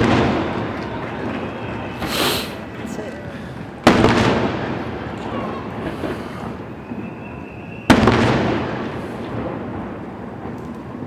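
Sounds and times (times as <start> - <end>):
firework bang echoing: 0.0 - 2.8, 3.6 - 11.0.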